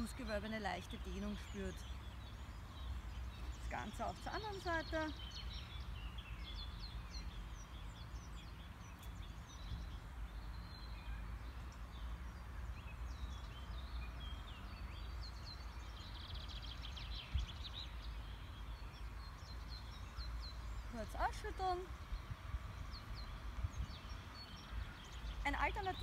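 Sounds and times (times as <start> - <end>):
birds chirping and singing: 0.0 - 26.0
wind rumble on microphone: 0.0 - 26.0.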